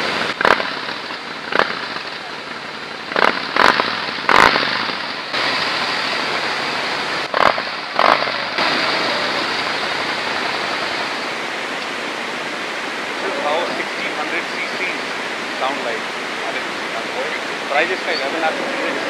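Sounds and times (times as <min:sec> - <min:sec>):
motorcycle engine revving: 0:00.0 - 0:14.4, 0:15.0 - 0:19.0
motorcycle idling: 0:00.0 - 0:19.0.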